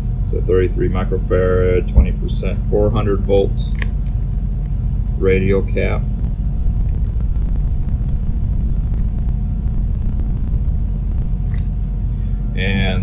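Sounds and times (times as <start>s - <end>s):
low rumble of machinery: 0.0s - 13.0s.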